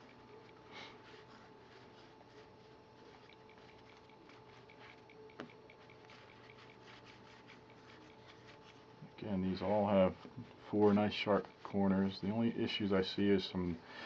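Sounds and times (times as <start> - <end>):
rustling of cards being handled: 0.0 - 13.6.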